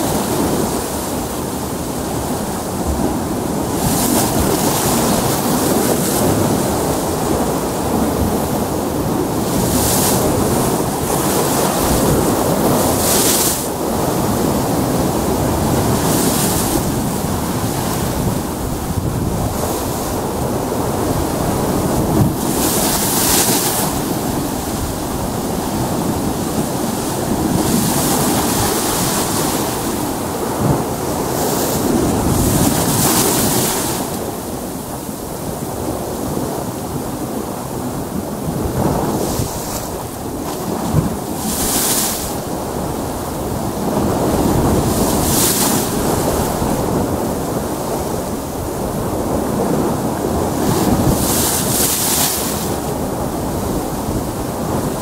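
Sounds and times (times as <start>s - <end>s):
sea surf breaking on rocks: 0.0s - 55.0s
wind buffeting microphone: 0.0s - 55.0s.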